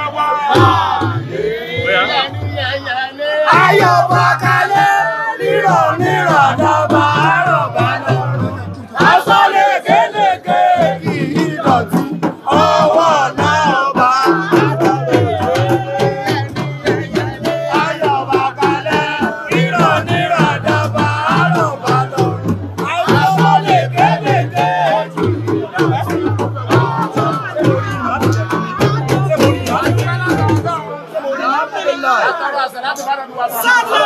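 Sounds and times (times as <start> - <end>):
rhythmic percussion beat: 0.0 - 31.0
group of voices singing: 0.0 - 32.2
crowd singing along: 0.0 - 32.7, 33.4 - 34.0.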